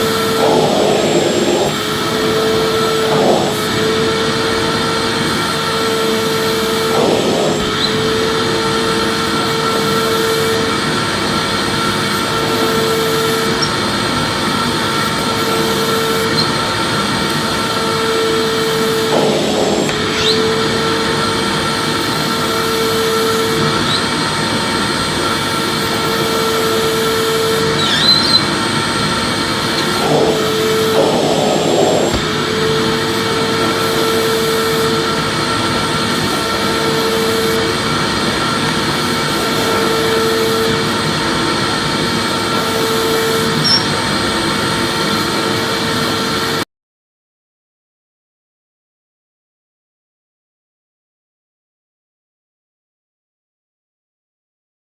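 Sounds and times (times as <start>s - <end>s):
vacuum cleaner motor running: 0.0s - 46.6s.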